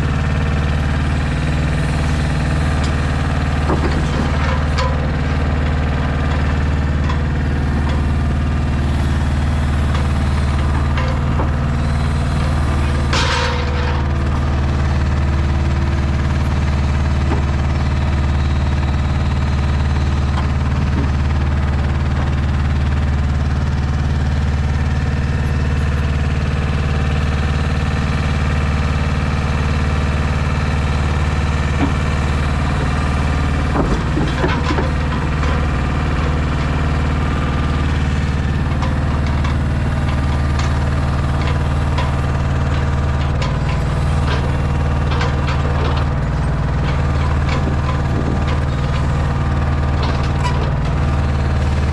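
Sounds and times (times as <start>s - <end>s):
truck diesel engine running: 0.0s - 51.9s
crane grab knocking stones: 0.8s - 27.2s, 30.7s - 51.9s.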